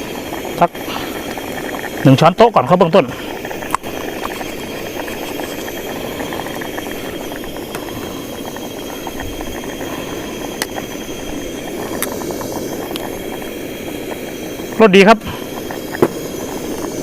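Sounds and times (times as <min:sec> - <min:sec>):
pot of curry boiling: 0:00.0 - 0:17.0.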